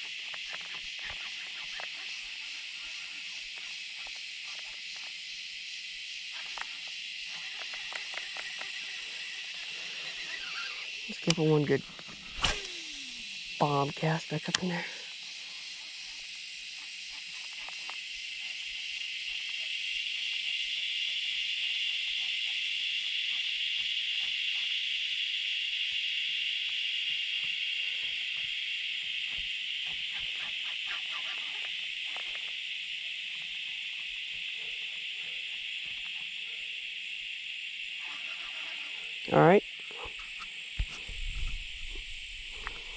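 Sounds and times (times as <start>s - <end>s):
insects droning: 0.0s - 42.9s.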